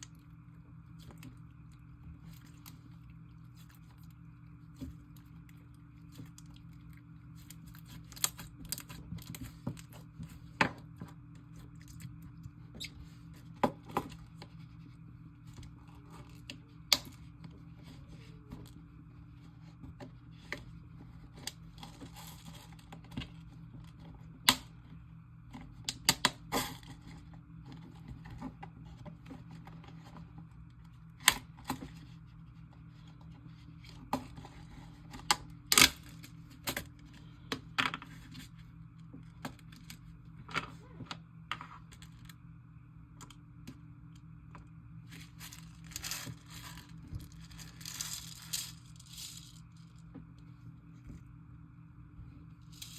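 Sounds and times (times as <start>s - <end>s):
faint low hum: 0.0s - 52.9s.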